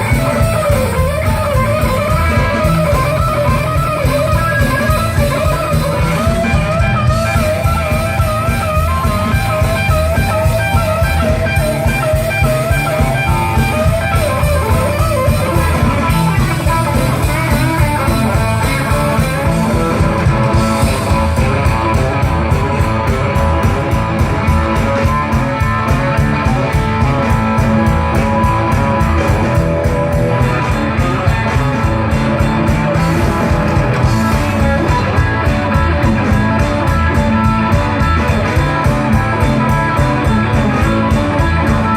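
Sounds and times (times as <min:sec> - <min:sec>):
blues-rock band playing: 0:00.0 - 0:41.9
lead guitar with bent notes: 0:00.0 - 0:41.9.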